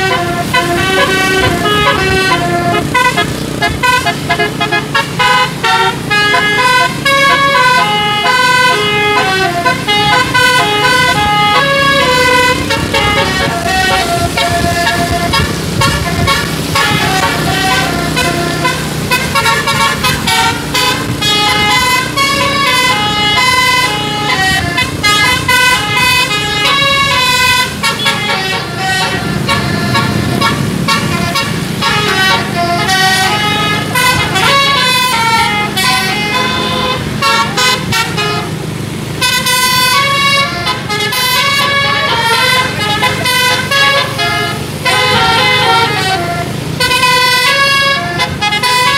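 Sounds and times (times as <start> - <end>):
musical air horn: 0.0 - 48.9.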